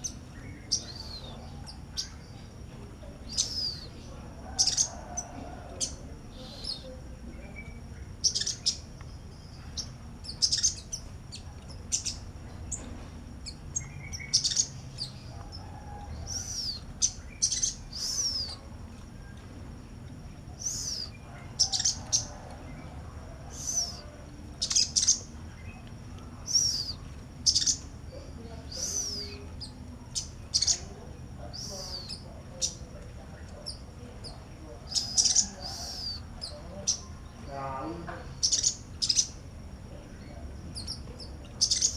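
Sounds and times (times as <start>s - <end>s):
bird chirping: 0.0s - 41.9s.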